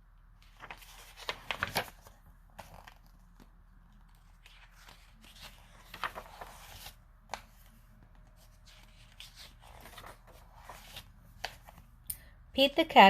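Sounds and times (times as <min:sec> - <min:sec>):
book pages rustling: 0:00.4 - 0:12.0.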